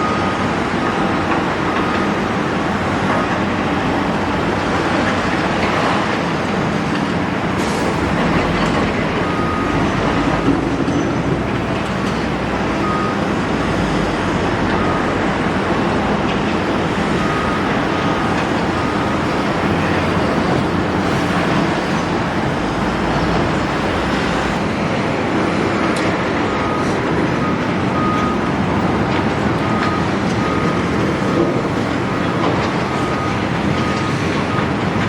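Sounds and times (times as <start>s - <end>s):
excavator engine: 0.0s - 35.0s.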